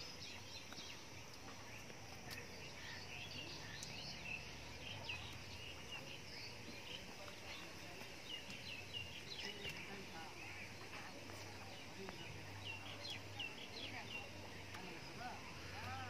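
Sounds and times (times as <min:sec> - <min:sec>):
bird chirps: 0:00.0 - 0:16.0.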